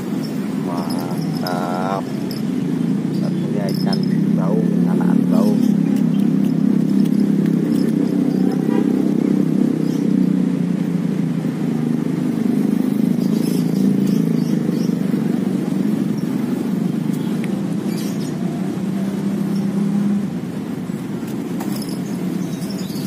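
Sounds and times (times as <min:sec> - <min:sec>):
cars passing over a bridge: 0:00.0 - 0:23.0.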